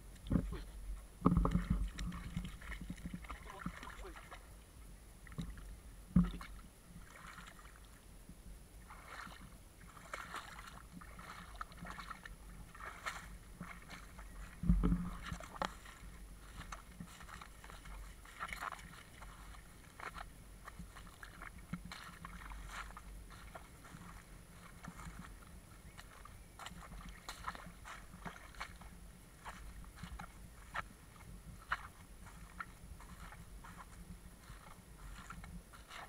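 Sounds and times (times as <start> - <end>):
footsteps rustling on wet seaweed: 1.3 - 4.5, 6.2 - 7.9, 8.8 - 36.0.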